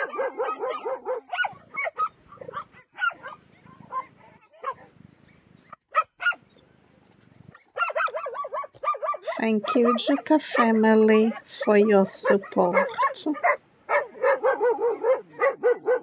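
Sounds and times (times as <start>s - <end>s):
puppies yipping and barking: 0.0s - 4.9s, 5.9s - 6.6s, 7.5s - 16.0s.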